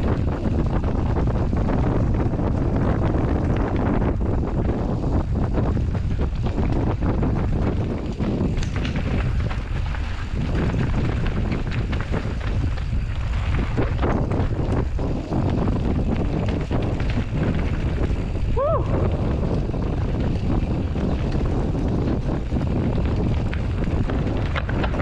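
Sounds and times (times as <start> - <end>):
mountain bike rumble and rattles: 0.0 - 25.0
tyre noise on dirt: 0.0 - 25.0
wind buffeting microphone: 0.0 - 25.0.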